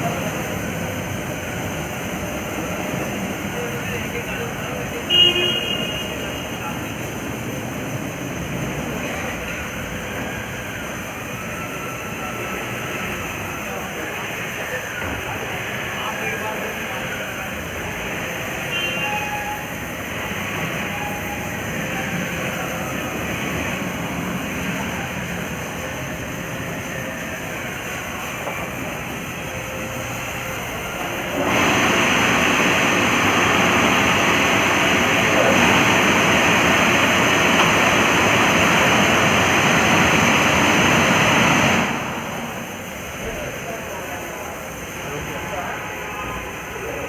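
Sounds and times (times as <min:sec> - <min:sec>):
car wash machine running: 0:00.0 - 0:47.0.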